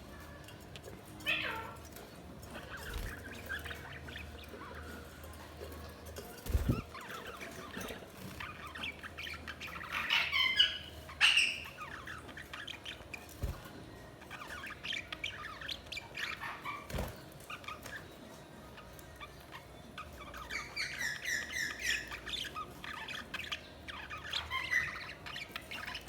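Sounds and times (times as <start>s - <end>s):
budgerigars chirping and warbling: 0.0s - 26.0s.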